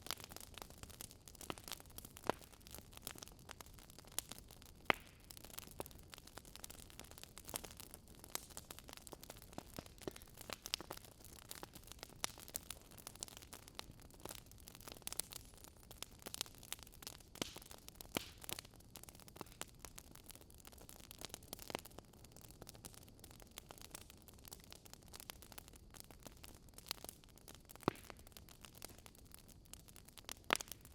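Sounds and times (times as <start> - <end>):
fire popping and snapping: 0.0 - 30.9
logs crackling in fireplace: 0.0 - 30.9.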